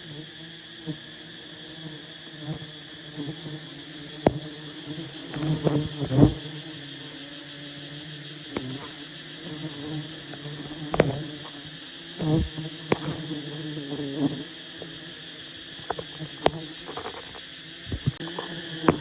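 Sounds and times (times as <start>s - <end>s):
high insect trill: 0.0s - 19.0s
honeybees buzzing: 0.0s - 19.0s.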